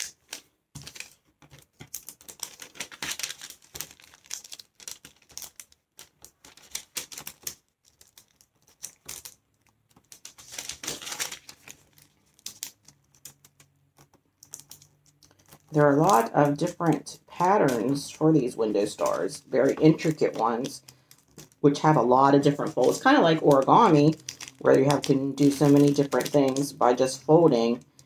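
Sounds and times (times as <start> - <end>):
paper crinkling and rustling: 0.0 - 28.0.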